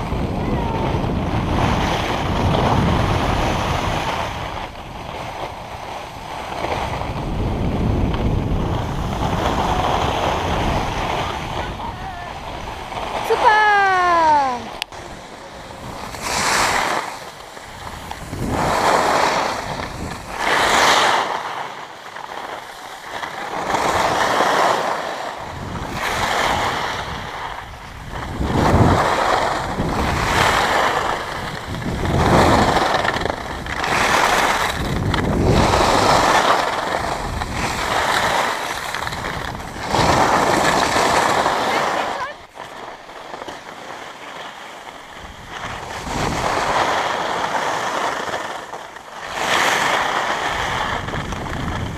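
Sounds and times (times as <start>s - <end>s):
skis scraping over snow: 0.0s - 51.9s.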